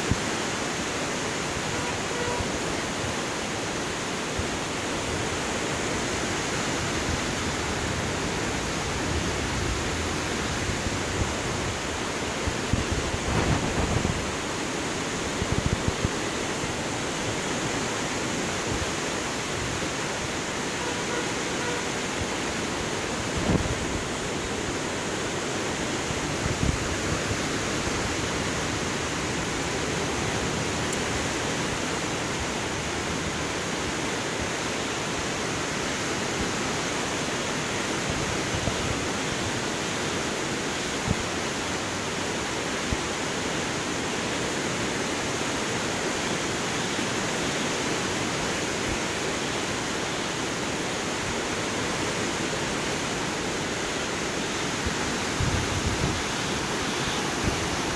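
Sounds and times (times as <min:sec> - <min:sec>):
river water rushing over gravel: 0:00.0 - 0:57.9.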